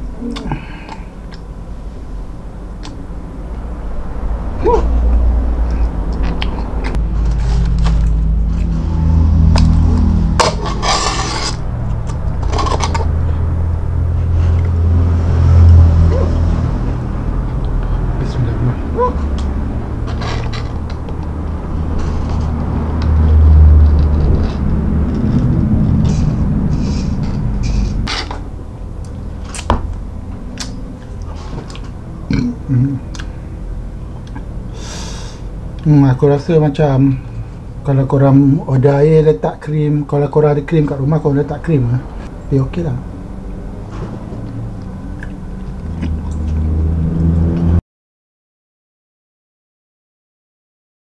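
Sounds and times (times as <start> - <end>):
steady low hum: 0.0 - 47.5.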